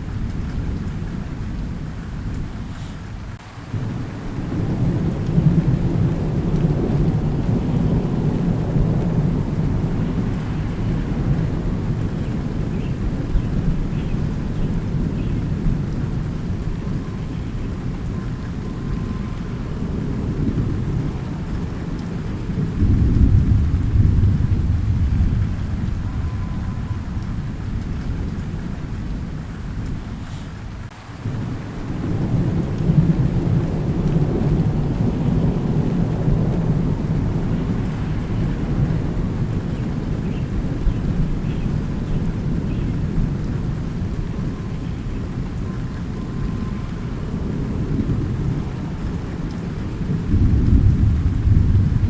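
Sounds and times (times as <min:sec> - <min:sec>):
steady rain: 0:00.0 - 0:52.0
thunder rumbling: 0:00.0 - 0:52.0.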